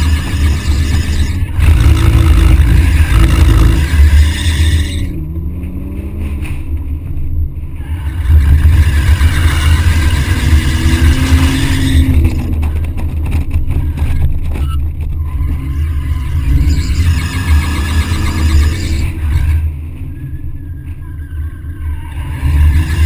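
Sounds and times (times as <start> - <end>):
car engine revving: 0.0 - 23.0
road noise: 0.0 - 23.0.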